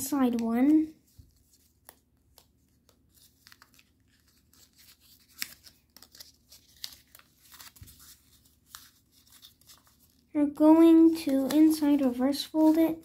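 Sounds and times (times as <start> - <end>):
paper crinkling and rustling: 0.0 - 10.3, 10.9 - 13.0.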